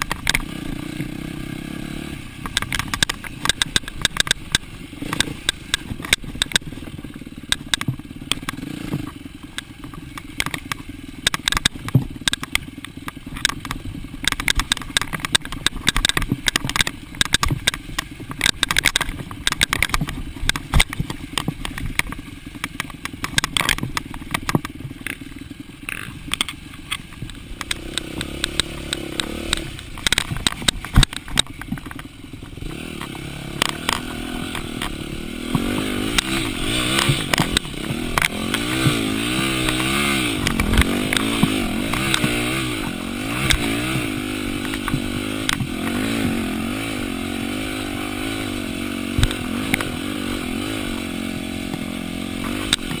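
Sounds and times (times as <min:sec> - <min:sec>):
bike knocking and clattering: 0:00.0 - 0:53.0
dirt bike engine revving: 0:00.0 - 0:53.0.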